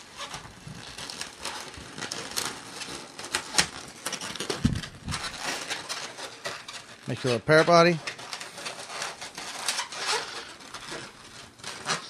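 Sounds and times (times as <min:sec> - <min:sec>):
balloon crackling as twisted: 0:00.0 - 0:12.0.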